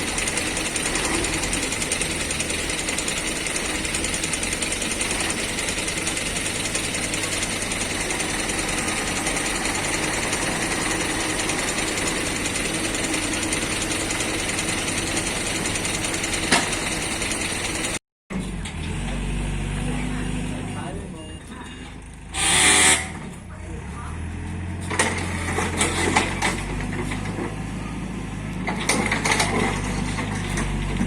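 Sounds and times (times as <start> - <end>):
diesel machinery running: 0.0 - 31.0.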